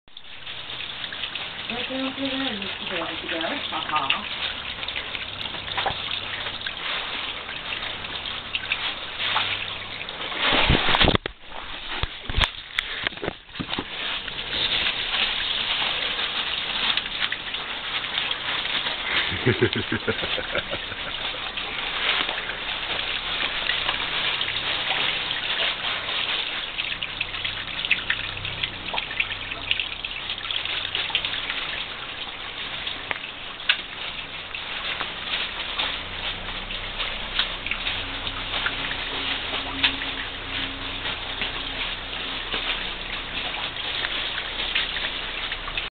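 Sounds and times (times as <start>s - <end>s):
water trickling over rock: 0.1s - 45.9s.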